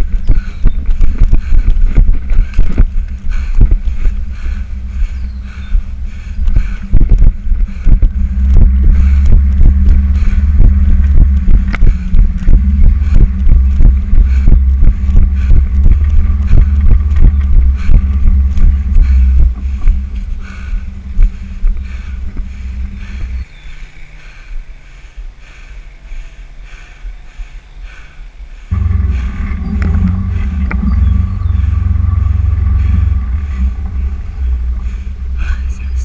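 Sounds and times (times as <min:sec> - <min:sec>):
wind rumble on microphone: 0:00.0 - 0:24.0, 0:28.7 - 0:36.0.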